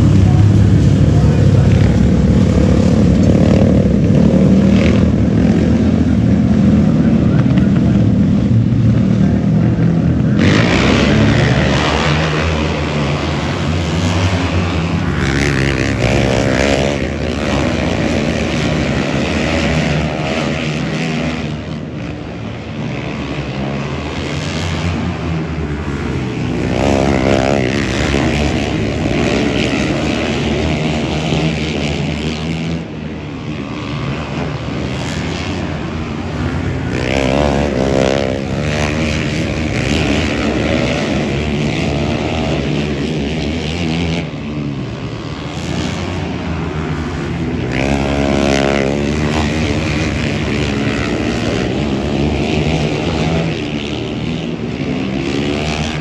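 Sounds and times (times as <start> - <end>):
engines revving: 0.0 - 56.0.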